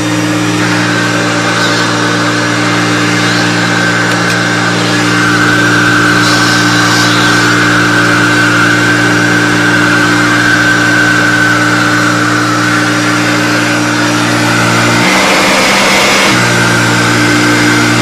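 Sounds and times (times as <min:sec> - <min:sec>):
vacuum cleaner motor hum and whine: 0:00.0 - 0:18.0.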